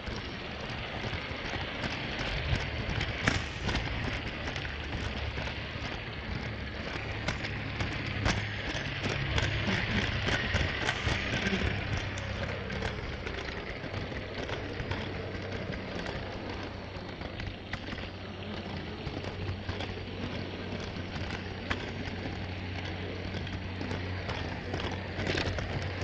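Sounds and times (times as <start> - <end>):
low motor hum: 0.0 - 26.0
toy train wheels rattling: 0.0 - 26.0.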